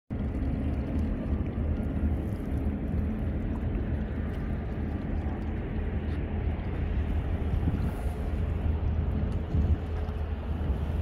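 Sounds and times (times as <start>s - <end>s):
rushing water: 0.1s - 11.0s
wind buffeting microphone: 0.1s - 11.0s.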